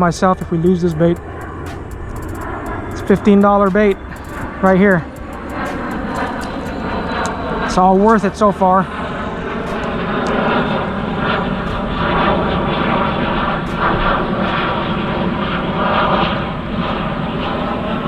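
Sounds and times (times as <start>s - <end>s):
engine drone with rushing noise: 0.0s - 18.0s.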